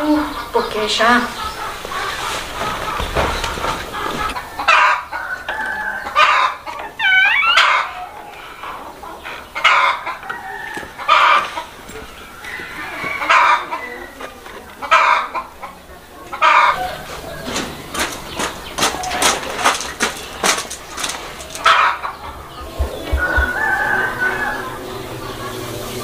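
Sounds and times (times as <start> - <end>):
fowl calling: 0.0 - 26.0
fowl squawking: 0.2 - 26.0.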